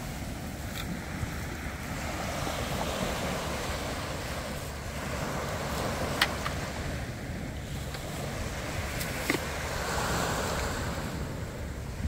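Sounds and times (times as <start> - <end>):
small waves breaking on a beach: 0.0 - 12.0
wind rumbling on microphone: 0.0 - 12.0.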